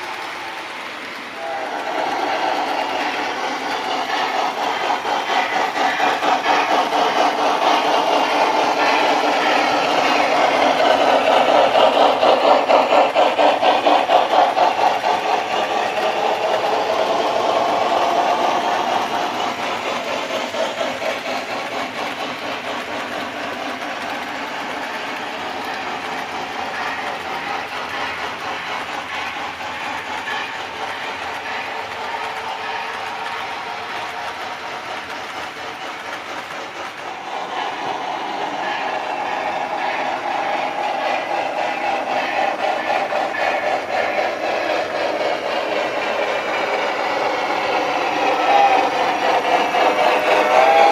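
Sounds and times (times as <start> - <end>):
model steam locomotive chuffing: 0.0 - 50.9
rolling train noise: 0.0 - 50.9.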